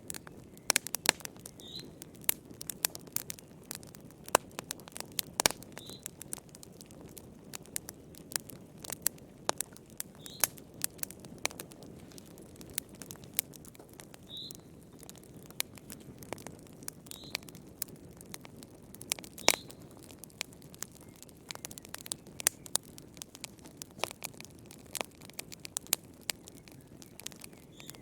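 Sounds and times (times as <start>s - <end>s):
low rumble of burning: 0.0s - 28.0s
wood fire crackling and popping: 0.0s - 28.0s.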